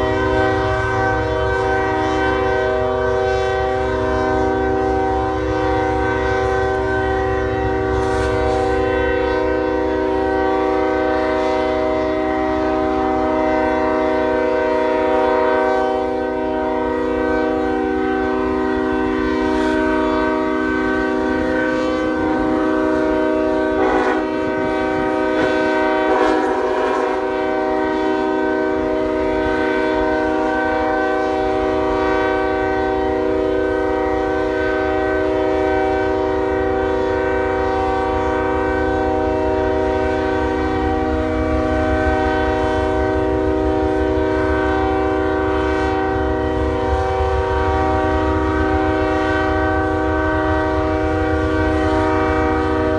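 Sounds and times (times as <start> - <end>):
low train rumble: 0.0 - 52.9
train air horn chord: 0.0 - 52.9.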